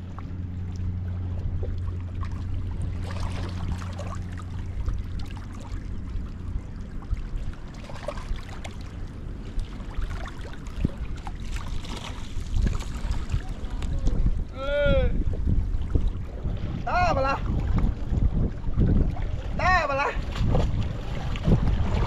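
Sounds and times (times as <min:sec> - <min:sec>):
steady low hum: 0:00.0 - 0:22.0
water splashing and trickling: 0:00.0 - 0:22.0.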